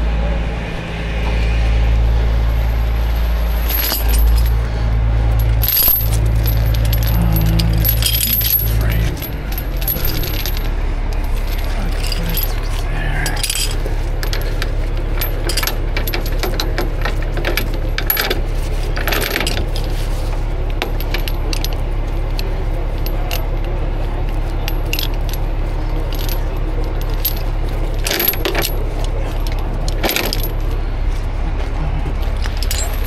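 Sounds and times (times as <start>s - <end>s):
steady low drone: 0.0s - 33.0s
chain clinking and rattling: 3.5s - 23.8s, 24.4s - 30.8s, 32.1s - 33.0s.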